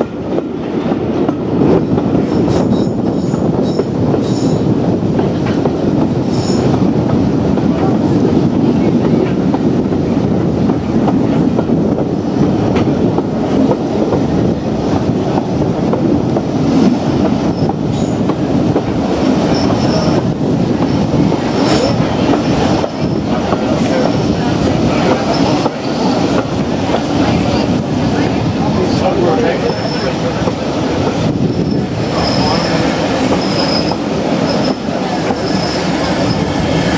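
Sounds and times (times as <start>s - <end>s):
train wheels rumbling and rattling: 0.0s - 36.9s.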